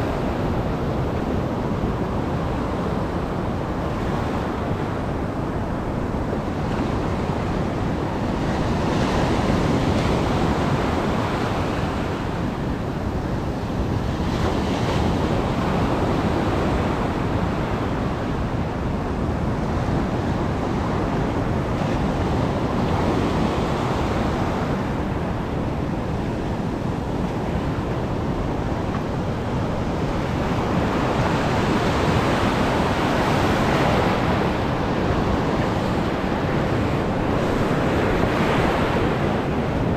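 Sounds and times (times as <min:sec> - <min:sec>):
heavy surf breaking on shore: 0:00.0 - 0:39.9.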